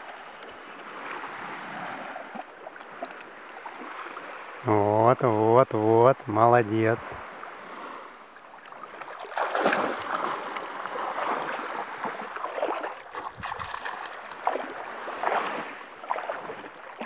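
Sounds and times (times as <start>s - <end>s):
feet wading through water: 0.0s - 4.6s, 7.2s - 17.0s.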